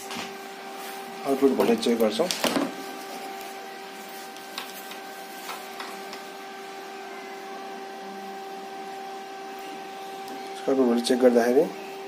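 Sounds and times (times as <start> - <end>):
welding machine humming: 0.0 - 12.0.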